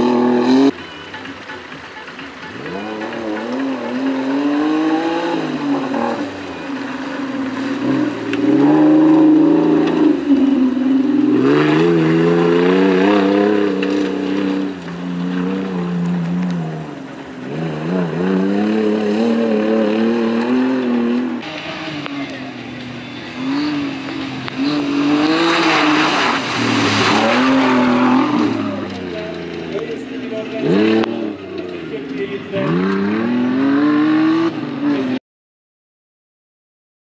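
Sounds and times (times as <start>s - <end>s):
suv engine revving through mud: 0.0s - 35.2s.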